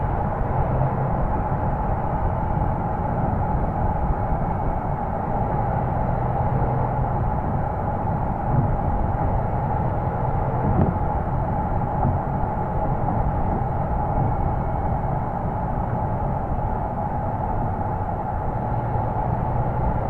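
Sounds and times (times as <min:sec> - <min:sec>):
car exhaust at steady speed: 0:00.0 - 0:20.0
road rumble: 0:00.0 - 0:20.0.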